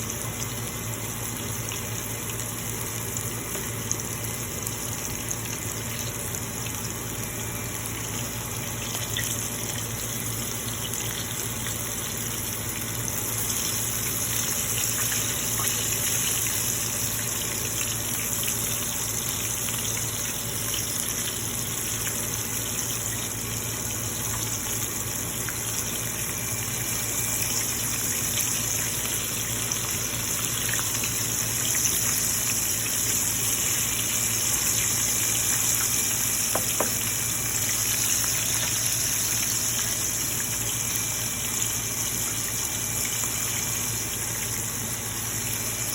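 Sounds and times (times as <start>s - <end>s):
chicken deep-frying in oil: 0.0s - 45.9s.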